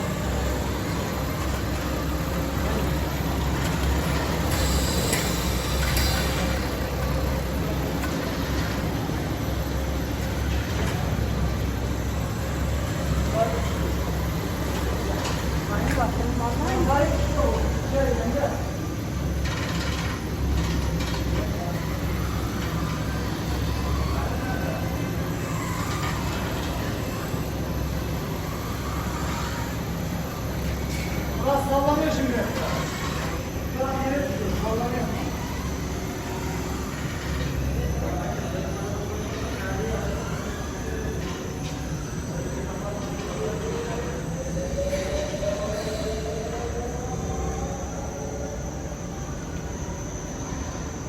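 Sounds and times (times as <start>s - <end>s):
flocking machine running: 0.0s - 51.0s.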